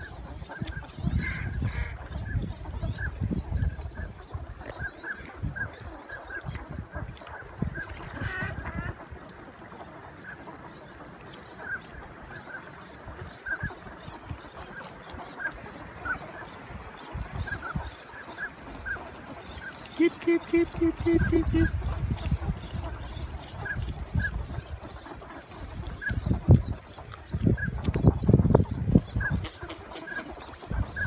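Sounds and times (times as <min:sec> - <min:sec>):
ducks calling: 0:00.0 - 0:31.0.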